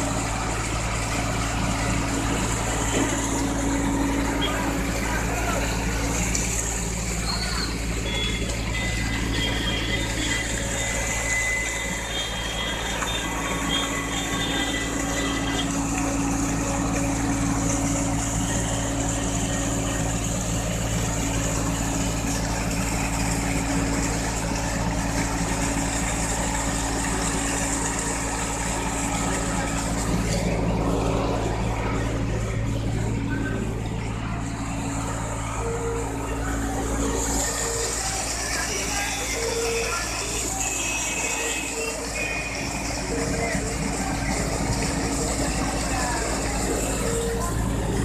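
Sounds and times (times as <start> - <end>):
tractor diesel engine running: 0.0 - 48.0
water jet splashing on ground: 0.0 - 48.0.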